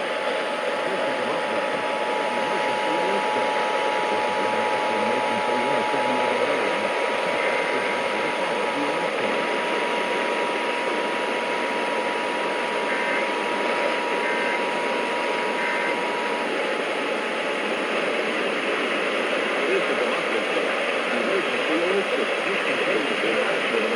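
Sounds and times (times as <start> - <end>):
radio static hiss: 0.0 - 23.9
faint two-tone data bursts: 0.4 - 23.9.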